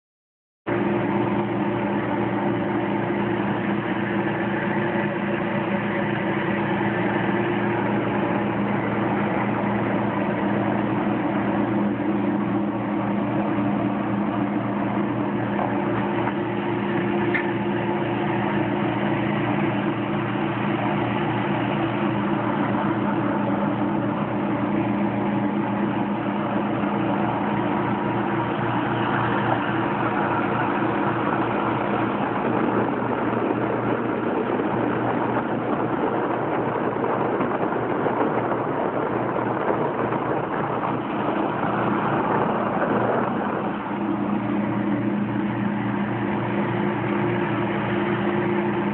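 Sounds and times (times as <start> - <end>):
dishwasher motor hum: 0.7 - 48.9.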